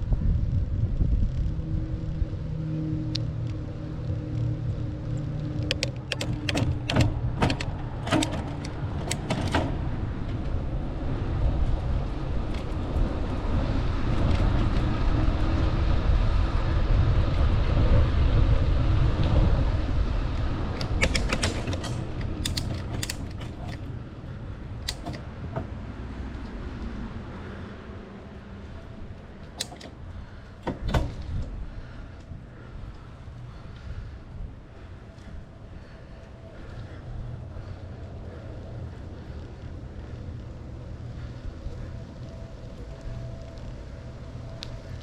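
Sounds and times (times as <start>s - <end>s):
bicycle clicks and creaks: 0.0s - 45.0s
wind rumble on microphone: 0.0s - 45.0s.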